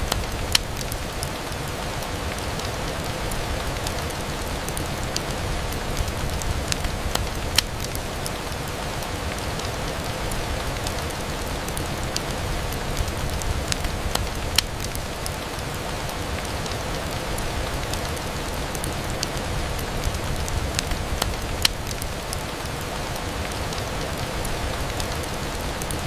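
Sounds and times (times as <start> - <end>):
rain on a window pane: 0.0 - 26.0.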